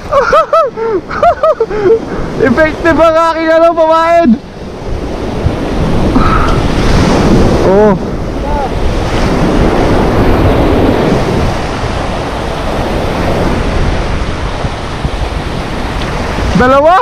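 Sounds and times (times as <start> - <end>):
sea surf washing on shore: 0.0 - 17.0
wind buffeting microphone: 0.0 - 17.0.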